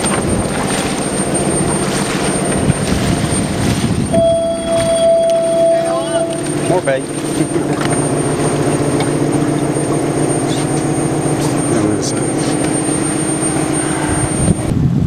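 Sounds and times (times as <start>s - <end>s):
faint high whine: 0.0s - 14.7s
outboard motor idling: 0.0s - 14.7s.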